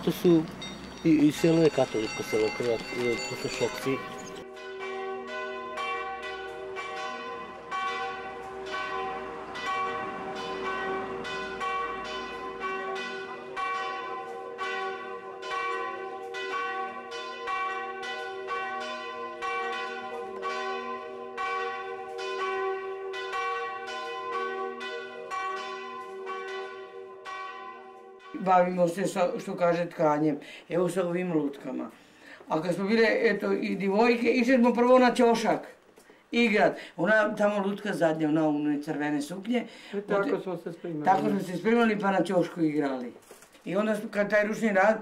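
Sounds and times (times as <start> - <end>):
church bells ringing: 0.0 - 35.7, 36.4 - 45.0.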